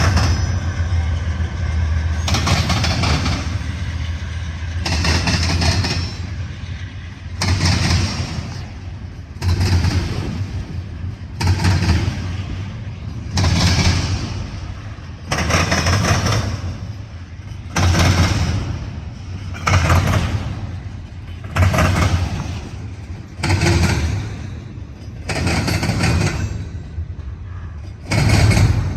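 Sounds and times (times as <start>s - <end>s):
freight train wheels clattering: 0.0s - 28.9s.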